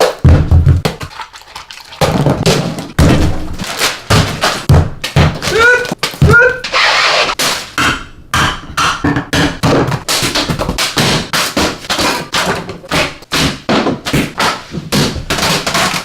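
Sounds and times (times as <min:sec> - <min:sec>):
loud knocks and thumps: 0:00.0 - 0:01.0, 0:02.0 - 0:06.4, 0:07.7 - 0:16.0.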